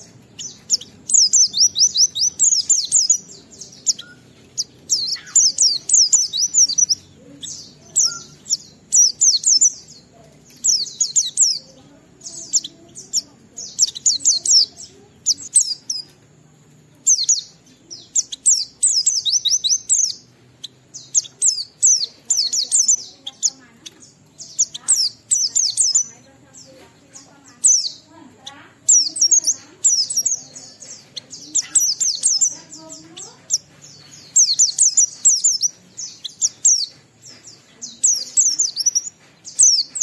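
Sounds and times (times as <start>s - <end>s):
bird singing rapid falling notes: 0.0s - 40.0s.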